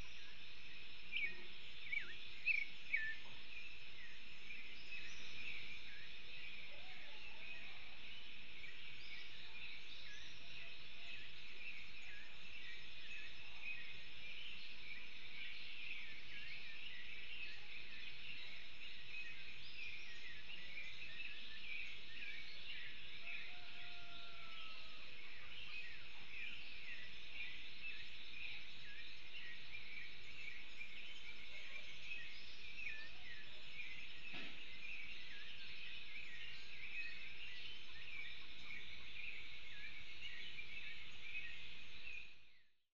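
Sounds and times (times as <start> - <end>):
birds chirping: 0.0 - 42.8.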